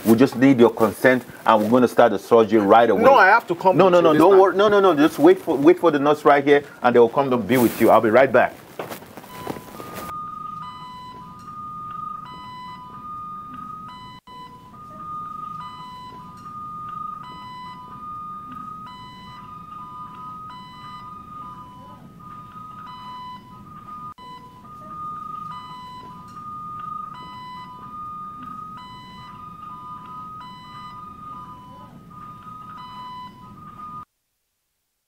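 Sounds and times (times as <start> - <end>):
electronic two-tone alarm beeping: 2.7 - 6.4, 9.2 - 34.1.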